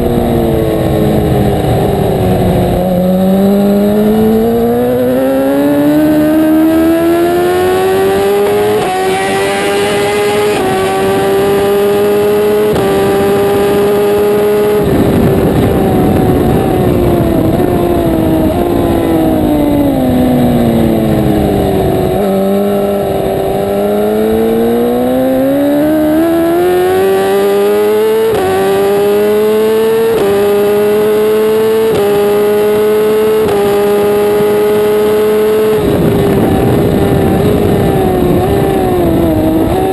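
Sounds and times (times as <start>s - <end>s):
superbike engine revving through gears: 0.0s - 39.9s.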